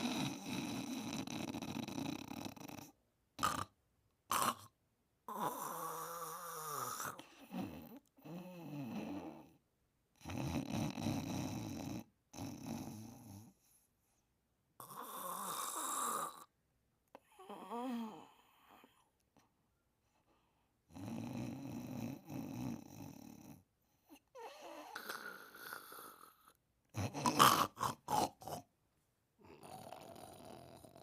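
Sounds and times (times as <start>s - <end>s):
person snoring: 0.0s - 9.6s, 10.2s - 13.7s, 14.8s - 16.5s, 17.2s - 19.1s, 20.9s - 28.7s, 29.4s - 31.0s.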